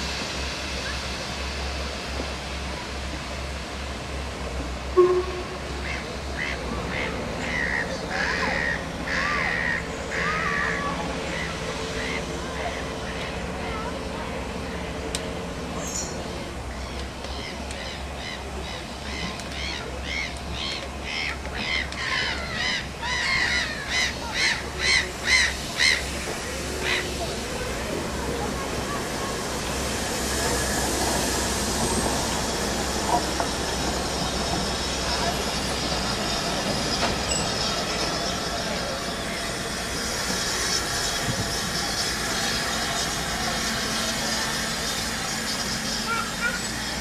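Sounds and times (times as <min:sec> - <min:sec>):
steam locomotive hissing: 0:00.0 - 0:47.0.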